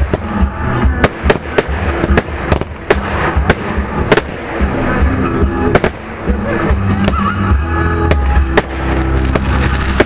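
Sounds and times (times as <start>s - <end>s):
fireworks bursting with sharp bangs: 0.0s - 10.0s
rumbling background: 0.0s - 10.0s.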